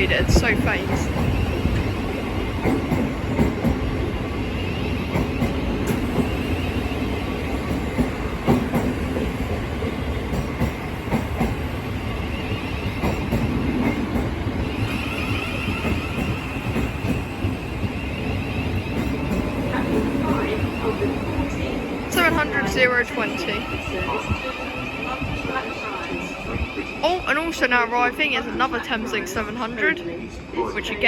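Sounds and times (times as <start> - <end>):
train running rumble: 0.0 - 27.3.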